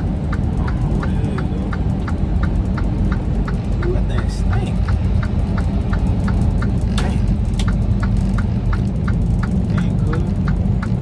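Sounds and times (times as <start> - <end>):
light regular ticking: 0.0 - 11.0
truck engine and road drone: 0.0 - 11.0.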